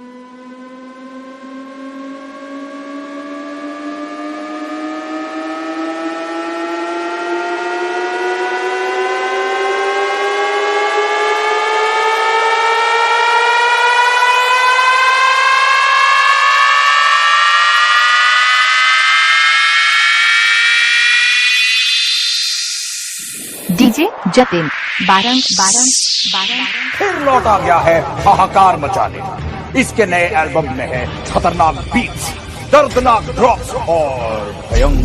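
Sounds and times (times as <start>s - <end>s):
buzzy rising synth tone: 0.0s - 29.8s, 34.6s - 35.0s.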